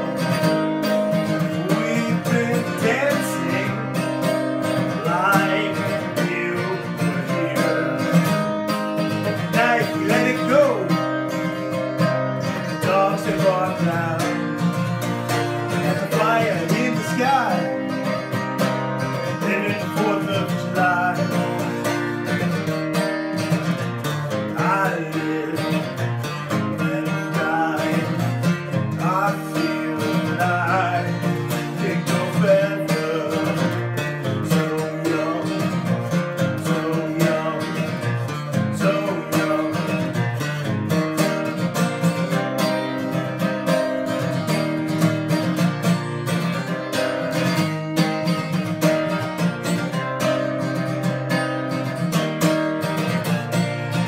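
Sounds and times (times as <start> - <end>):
man singing: 0.0 - 45.7
acoustic guitar strumming: 0.0 - 54.0.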